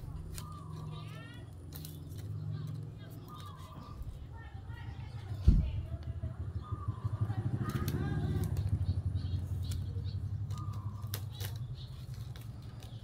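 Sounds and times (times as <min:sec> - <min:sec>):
engine passing by: 0:00.0 - 0:13.0.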